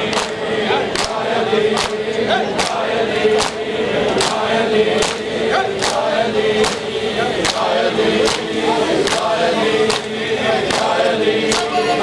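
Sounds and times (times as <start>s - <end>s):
crowd of men chanting: 0.0s - 12.0s.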